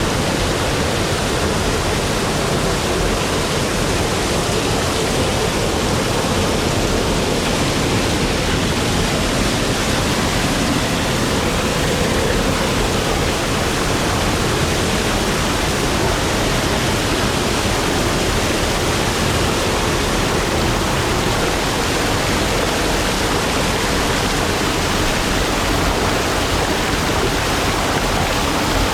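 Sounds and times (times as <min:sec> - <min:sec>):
running water rushing: 0:00.0 - 0:28.9.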